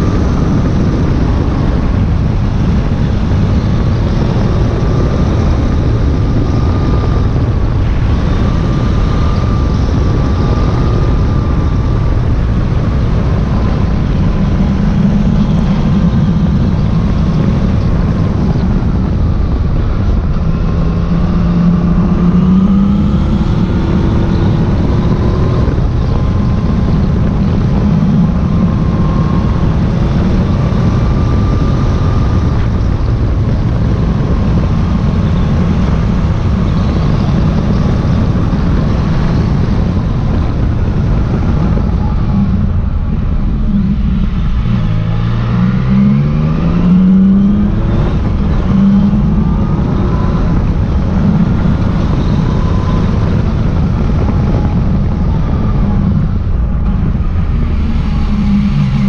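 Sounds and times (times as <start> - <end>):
motorcycle engine running: 0.0 - 59.0
wind rushing on microphone: 0.0 - 59.0.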